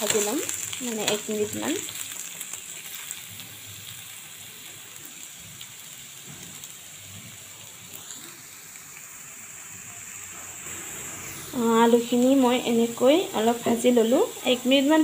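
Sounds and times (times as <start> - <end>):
potatoes frying in hot oil: 0.0 - 15.0.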